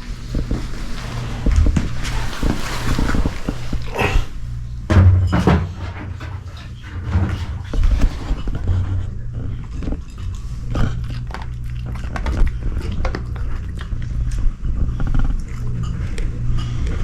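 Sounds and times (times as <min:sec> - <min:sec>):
dogs eating crunching food: 0:00.0 - 0:04.9, 0:05.6 - 0:17.0.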